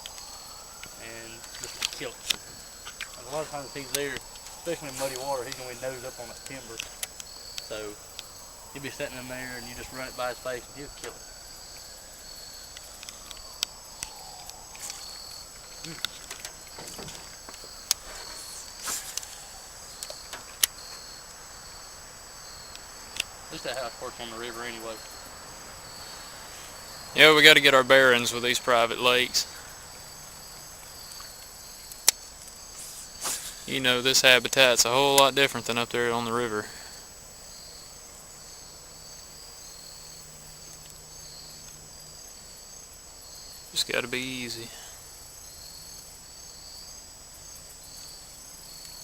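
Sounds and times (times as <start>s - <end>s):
insects chirping: 0.0s - 49.0s.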